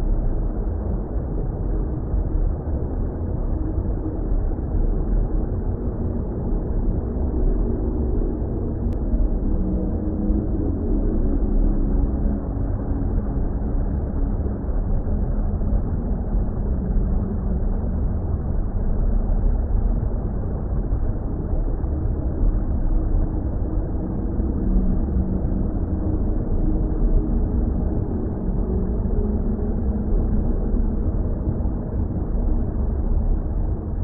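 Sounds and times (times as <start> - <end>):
faint droning tones: 0.0 - 34.0.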